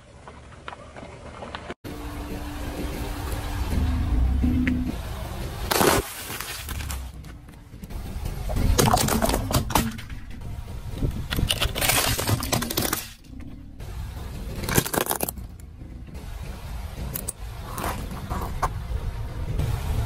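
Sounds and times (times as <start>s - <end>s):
car rumbling: 1.6s - 20.0s.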